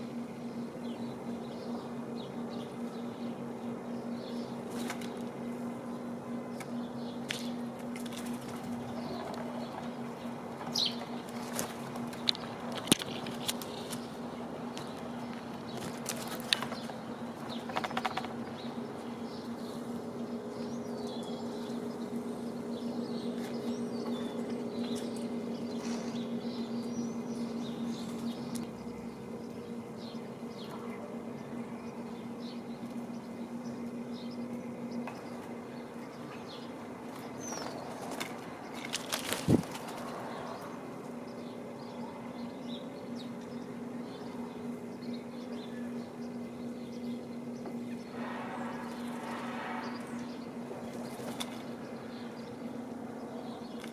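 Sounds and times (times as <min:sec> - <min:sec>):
birds chirping: 0:00.0 - 0:53.9
steady low hum: 0:00.0 - 0:53.9.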